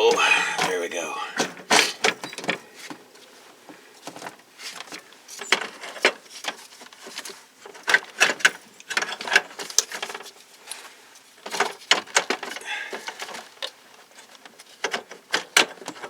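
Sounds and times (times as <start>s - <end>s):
hand tools and metal parts rattling: 0.1s - 16.0s.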